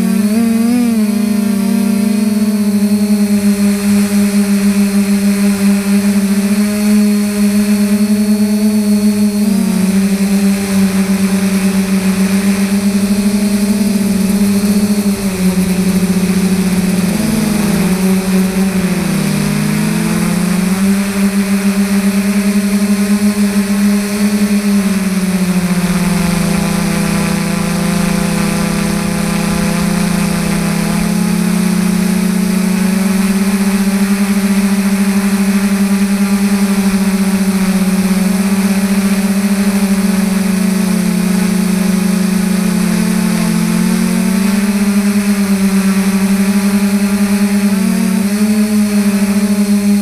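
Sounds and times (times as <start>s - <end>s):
drone motors and propellers humming: 0.0s - 50.0s.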